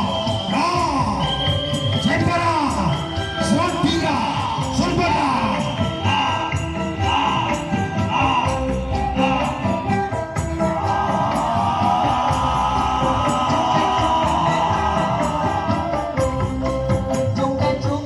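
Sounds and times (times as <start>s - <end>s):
jingling tambourine-like percussion: 0.0s - 18.0s
music with steady beat: 0.0s - 18.0s.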